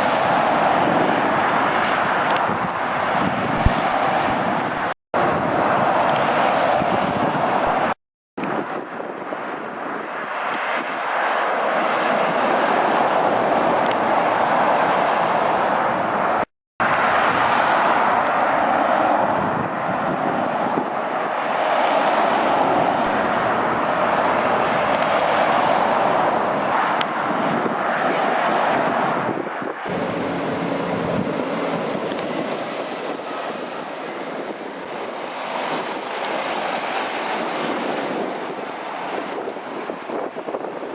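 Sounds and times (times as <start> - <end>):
heavy traffic rushing past: 0.0 - 40.9
wind buffeting microphone: 0.0 - 40.9.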